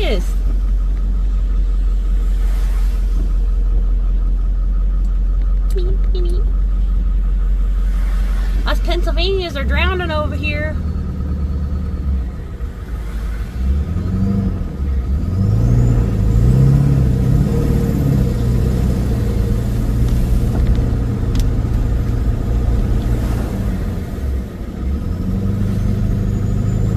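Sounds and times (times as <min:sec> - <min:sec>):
car engine revving: 0:00.0 - 0:26.9.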